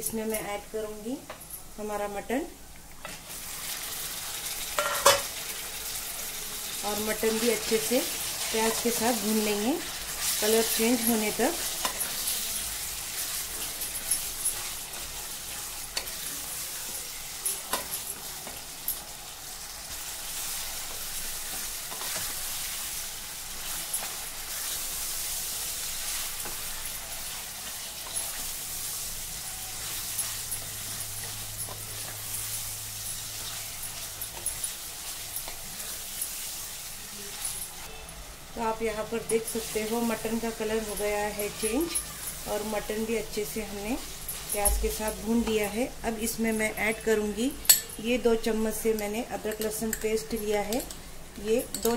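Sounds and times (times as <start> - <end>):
meat and onions sizzling in oil: 0.0 - 51.9.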